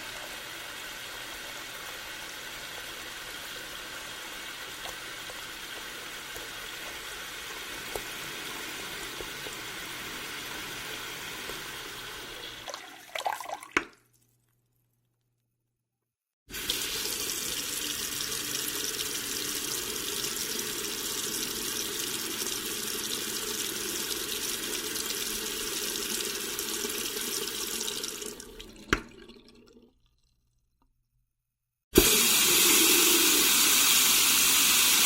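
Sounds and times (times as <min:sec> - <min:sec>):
water running: 0:00.0 - 0:14.0, 0:16.5 - 0:30.0, 0:32.0 - 0:35.0.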